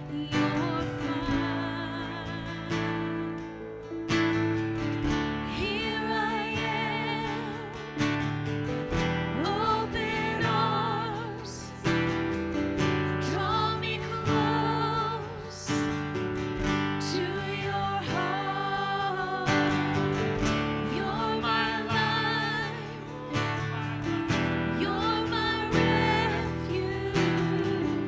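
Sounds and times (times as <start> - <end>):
person singing with vibrato: 0.0 - 3.6, 5.4 - 12.2, 12.8 - 28.0
strummed acoustic guitar: 0.0 - 28.0.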